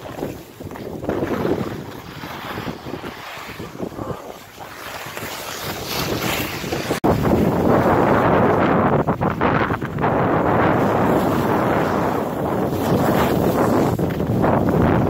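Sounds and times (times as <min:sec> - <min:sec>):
wind rushing over microphone: 0:00.0 - 0:15.0
skis scraping on snow: 0:00.2 - 0:08.4, 0:10.7 - 0:15.0.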